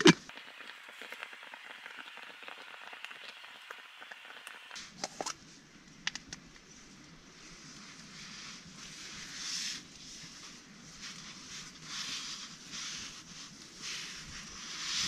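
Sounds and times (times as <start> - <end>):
heater pack fizzing and crackling: 0.0 - 15.0.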